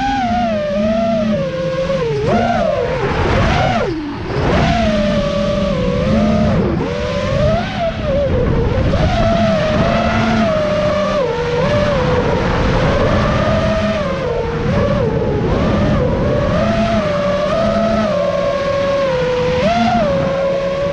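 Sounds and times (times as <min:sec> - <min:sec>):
drone motors and propellers whining: 0:00.0 - 0:20.9.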